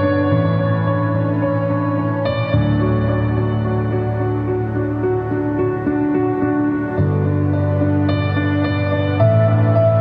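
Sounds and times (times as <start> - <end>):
calm background music: 0.0 - 10.0.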